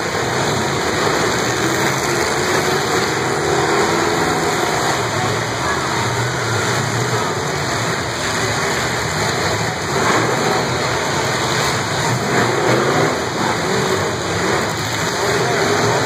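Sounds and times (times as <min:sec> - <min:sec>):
car engines revving: 0:00.0 - 0:16.0
crowd noise: 0:00.0 - 0:16.0.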